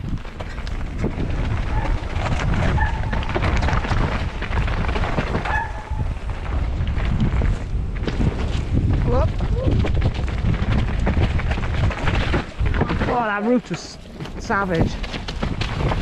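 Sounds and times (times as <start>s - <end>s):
wind on microphone: 0.0s - 13.3s, 14.0s - 16.0s
bike rattling and knocking: 0.0s - 16.0s
tyres on dirt: 0.0s - 16.0s.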